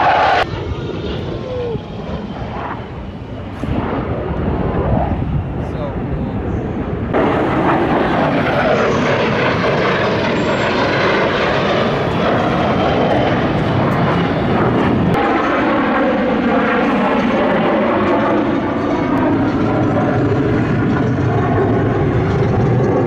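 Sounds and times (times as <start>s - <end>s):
fighter jet roar: 0.0s - 23.0s.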